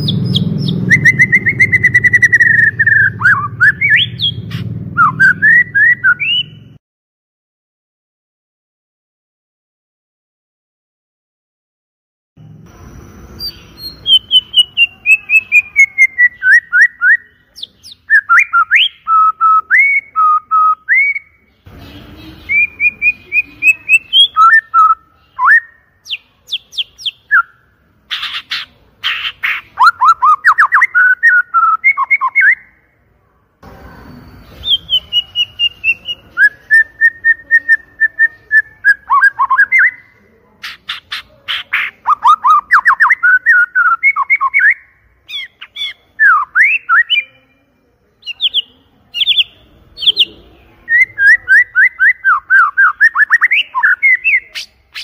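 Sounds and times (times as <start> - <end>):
bird singing whistled phrases: 0.0 - 6.8, 13.4 - 21.5, 22.2 - 27.6, 28.2 - 32.8, 34.0 - 55.0.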